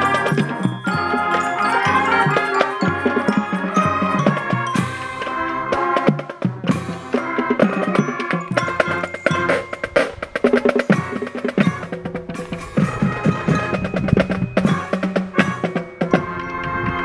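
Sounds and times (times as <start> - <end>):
marching band playing: 0.0 - 17.0.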